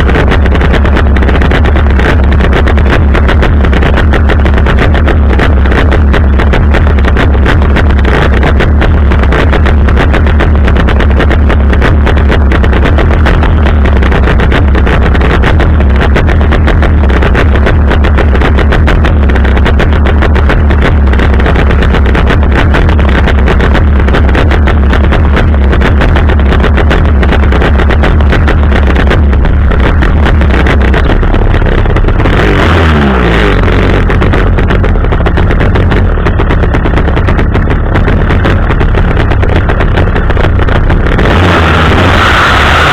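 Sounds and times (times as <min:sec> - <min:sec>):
chainsaw engine running: 0:00.0 - 0:42.9.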